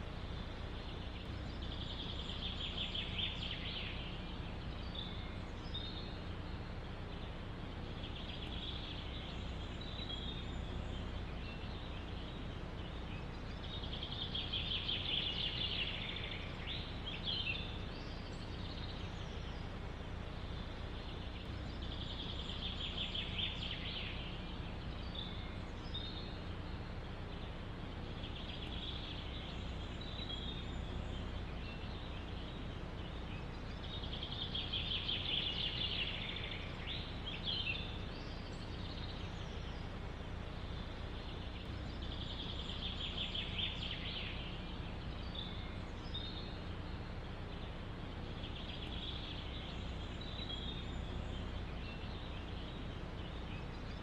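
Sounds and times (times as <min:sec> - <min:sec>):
low background rumble: 0:00.0 - 0:54.0
songbirds trilling: 0:00.0 - 0:54.0.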